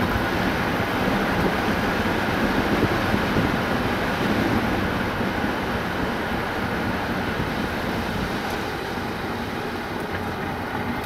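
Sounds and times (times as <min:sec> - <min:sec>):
tyres rumbling on road: 0:00.0 - 0:11.0.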